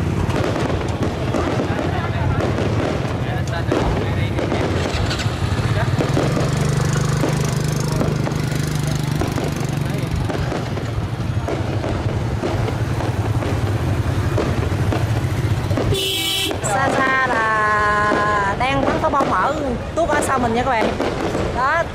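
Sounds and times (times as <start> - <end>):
motorbike engines humming: 0.0 - 21.9
many voices talking: 0.6 - 13.6, 16.5 - 21.9.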